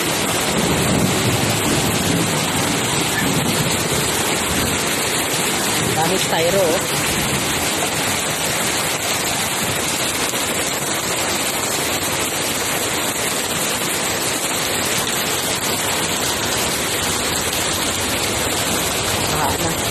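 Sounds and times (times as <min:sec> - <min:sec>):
heavy rain splashing into water: 0:00.0 - 0:19.9.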